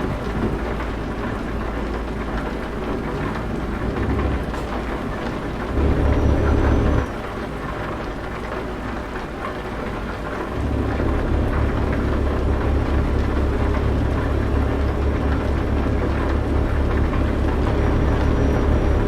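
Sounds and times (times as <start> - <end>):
steady rain: 0.0 - 19.0
truck engine rumble: 0.0 - 19.0.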